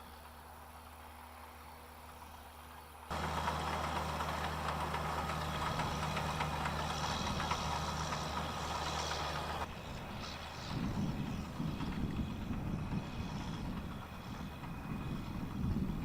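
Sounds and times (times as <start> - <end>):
farm machinery engine rattling: 0.0 - 16.0.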